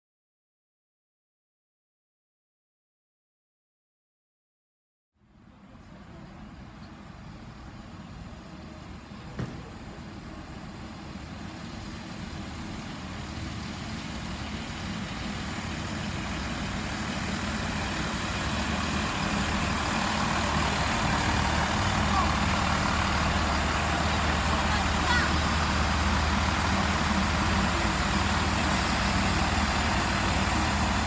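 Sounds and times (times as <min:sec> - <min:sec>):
diesel train running: 0:05.2 - 0:31.0.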